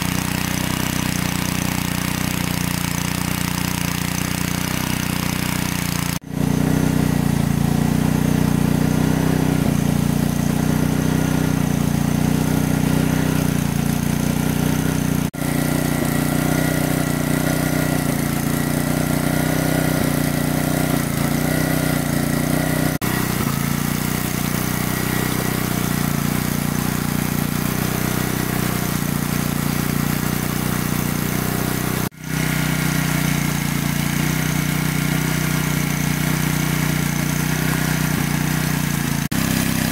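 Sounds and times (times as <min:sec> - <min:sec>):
water pump engine droning: 0:00.0 - 0:39.9.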